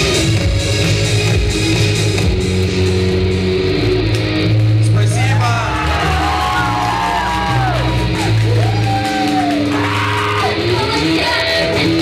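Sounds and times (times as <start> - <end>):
bass guitar: 0.0 - 12.0.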